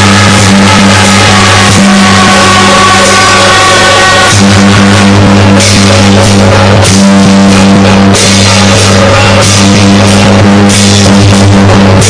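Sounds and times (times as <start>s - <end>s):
barrel drums beating: 0.0s - 12.0s
hand cymbals clashing: 0.0s - 12.0s.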